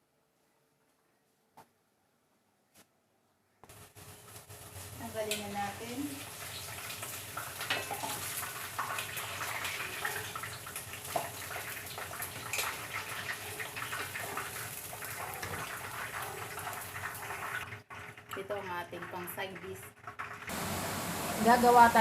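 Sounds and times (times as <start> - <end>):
potatoes sizzling in hot oil: 3.7 - 22.0.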